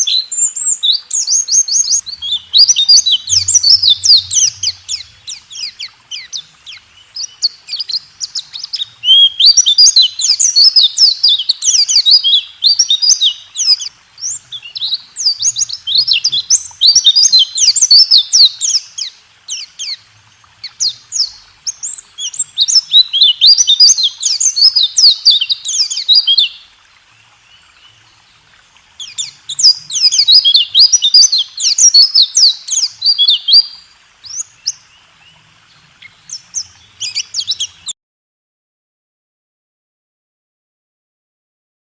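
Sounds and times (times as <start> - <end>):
bird singing rapid chirps and trills: 0.0 - 35.4, 36.0 - 38.0.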